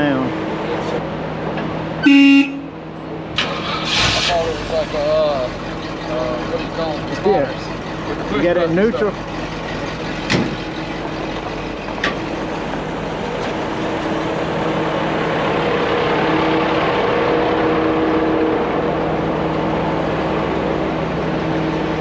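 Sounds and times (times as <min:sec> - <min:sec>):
heavy truck engine running: 0:00.0 - 0:22.0.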